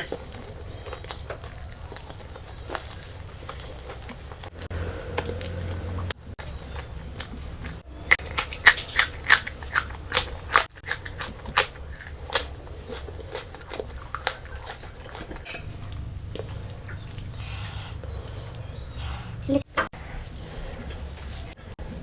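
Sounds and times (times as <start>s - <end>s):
chewing crunchy food: 0.0s - 19.1s.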